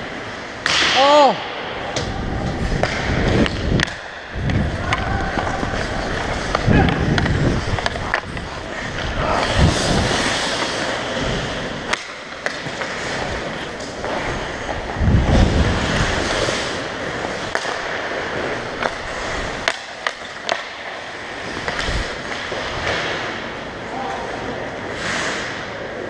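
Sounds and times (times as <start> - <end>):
hockey sticks clacking on puck: 0.6 - 1.3, 1.9 - 15.0, 16.0 - 23.6
ice skate blades scraping: 2.2 - 26.0.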